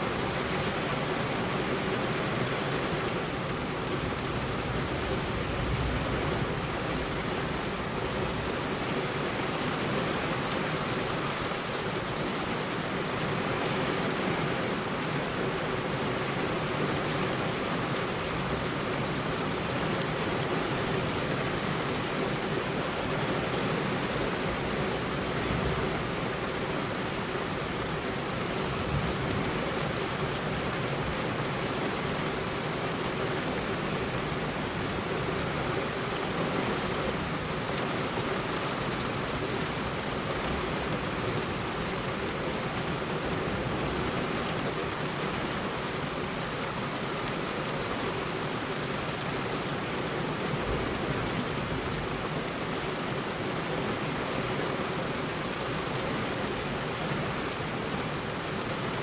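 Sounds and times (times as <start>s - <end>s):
heavy rain on road: 0.0s - 59.0s.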